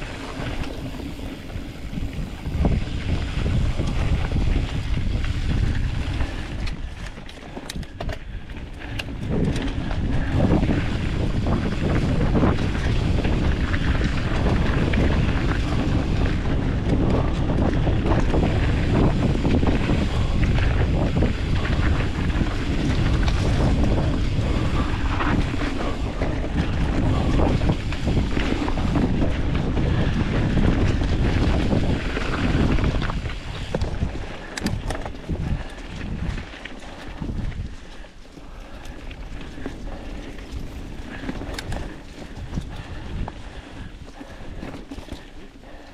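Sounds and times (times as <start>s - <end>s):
bike tyres rolling over dirt: 0.0s - 45.9s
wind buffeting microphone: 0.0s - 45.9s.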